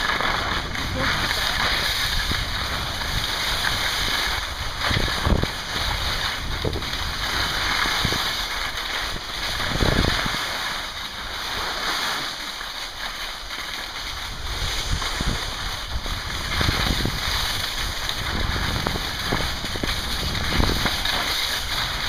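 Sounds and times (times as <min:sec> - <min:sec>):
skis scraping over icy snow: 0:00.0 - 0:22.0
wind rumbling on microphone: 0:00.0 - 0:22.0.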